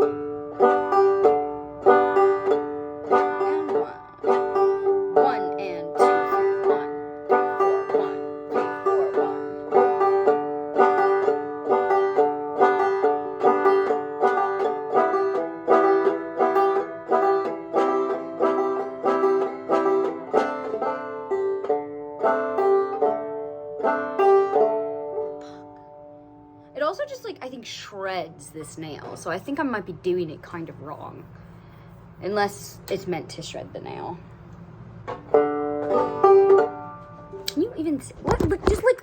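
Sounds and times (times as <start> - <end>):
banjo plucking and strumming: 0.0 - 31.1, 34.8 - 39.0.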